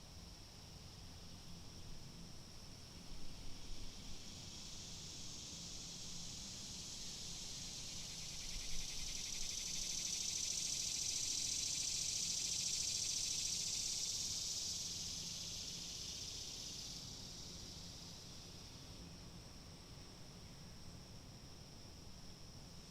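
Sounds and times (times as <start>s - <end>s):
cicadas buzzing: 0.7s - 20.8s.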